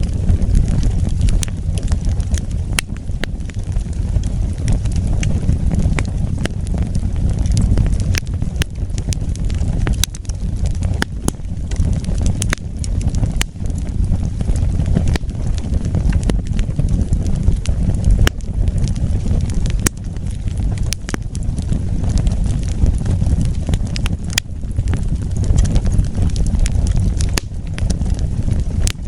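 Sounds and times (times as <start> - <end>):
fire rumbling: 0.0 - 29.0
wood crackling and popping: 0.0 - 29.0.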